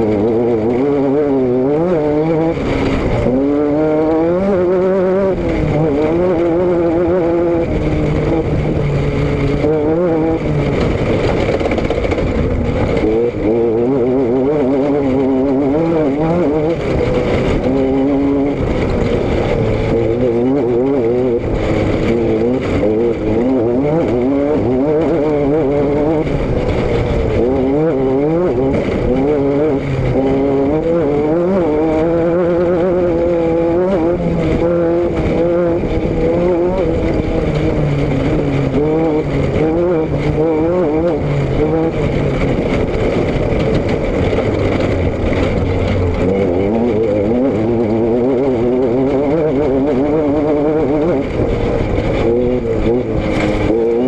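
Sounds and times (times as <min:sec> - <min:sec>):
car engine and exhaust: 0:00.0 - 0:54.0
road and wind noise: 0:00.0 - 0:54.0.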